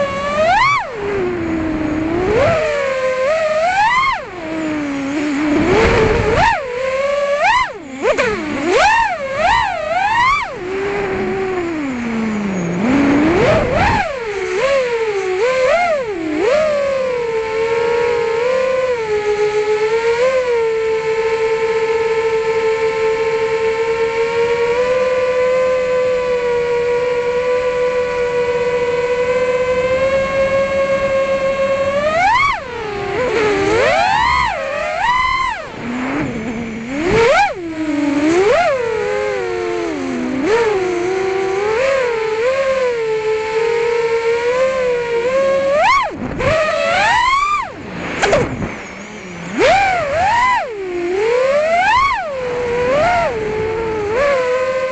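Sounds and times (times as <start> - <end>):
drone motors and propellers whining: 0.0 - 54.9.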